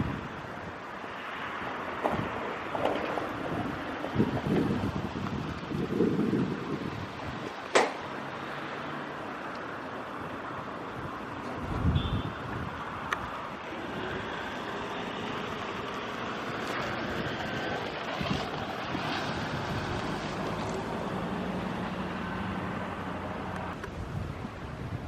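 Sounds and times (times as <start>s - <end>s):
wind on microphone: 0.0s - 0.9s, 2.0s - 7.6s, 10.7s - 25.0s.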